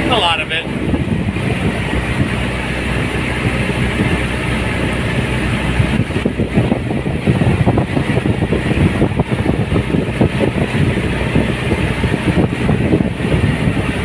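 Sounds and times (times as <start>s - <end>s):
boat engine droning: 0.0s - 14.0s
rushing noise: 0.0s - 14.0s.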